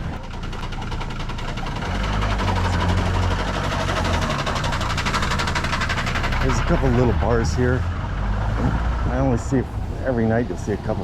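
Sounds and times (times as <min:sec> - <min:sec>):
vehicle engine pulsing: 0:00.0 - 0:11.0.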